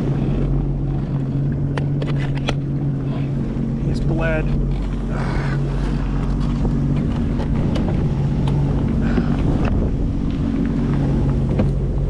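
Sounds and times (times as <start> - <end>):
jet ski engine humming: 0.0 - 12.0
wind buffeting microphone: 0.0 - 12.0.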